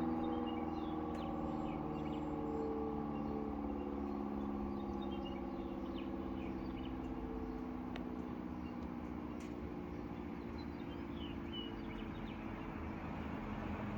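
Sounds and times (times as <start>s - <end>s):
air raid siren: 0.0s - 13.9s
birds chirping faintly: 0.0s - 13.9s.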